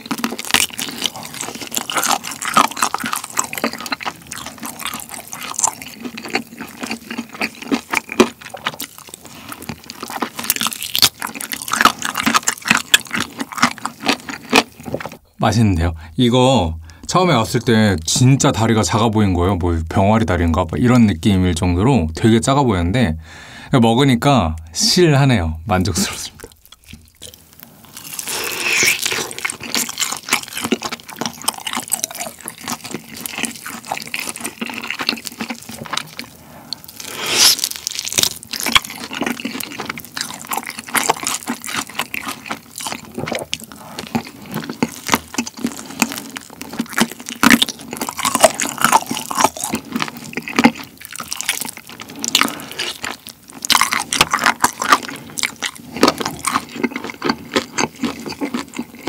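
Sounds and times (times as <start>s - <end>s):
crunching fried chicken coating: 0.0s - 15.2s, 26.0s - 59.0s
wet sticky chewing sounds: 0.0s - 15.2s, 25.8s - 59.0s.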